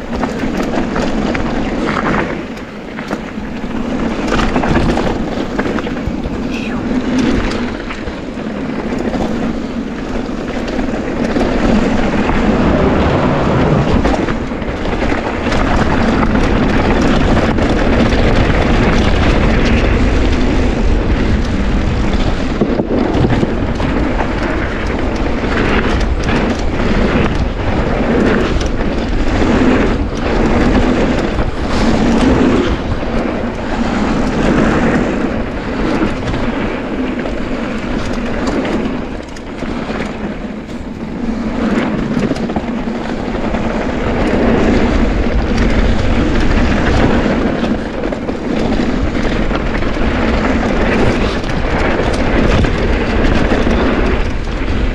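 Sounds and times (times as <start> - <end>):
bike rattling over bumps: 0.0 - 54.9
tyres rolling over dirt and rocks: 0.0 - 54.9.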